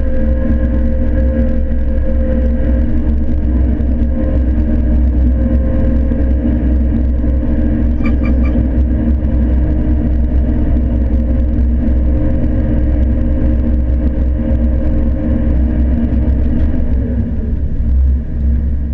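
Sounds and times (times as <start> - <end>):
combine harvester rumbling: 0.0 - 18.9.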